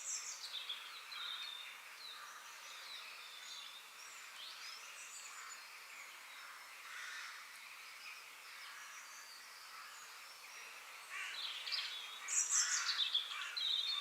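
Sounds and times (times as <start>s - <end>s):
background hiss: 0.0s - 14.0s
small birds chirping: 0.0s - 14.0s.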